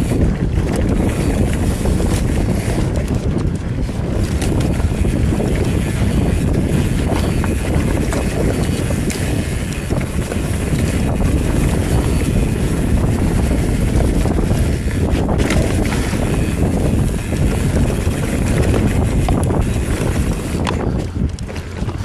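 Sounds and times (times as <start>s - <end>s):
bike clicks and rattles: 0.0s - 22.0s
tyres rumbling on dirt trail: 0.0s - 22.0s
wind rushing over microphone: 0.0s - 22.0s.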